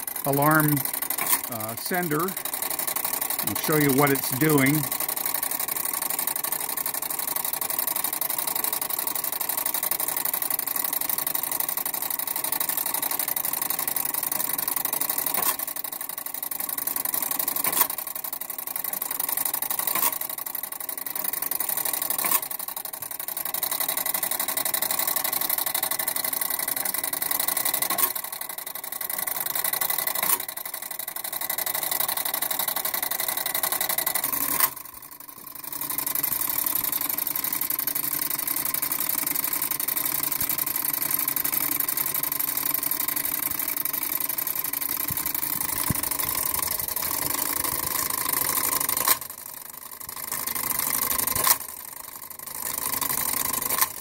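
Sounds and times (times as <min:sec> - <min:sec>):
clockwork gears whirring: 0:00.0 - 0:54.0.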